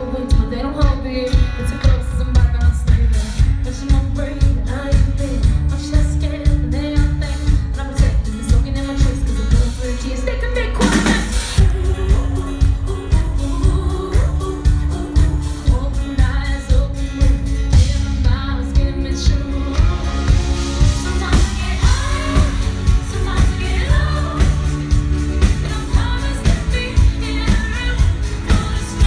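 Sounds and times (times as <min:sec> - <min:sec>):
live pop-rock band: 0:00.0 - 0:29.0
woman singing lead: 0:00.0 - 0:29.0.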